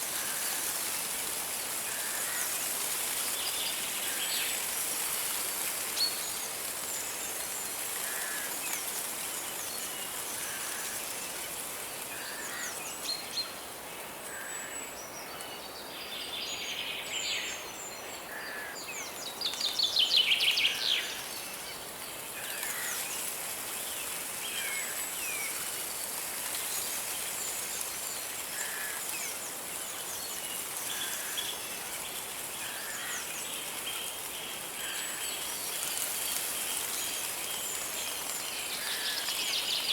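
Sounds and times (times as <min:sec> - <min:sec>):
forest birds singing: 0:00.0 - 0:39.9.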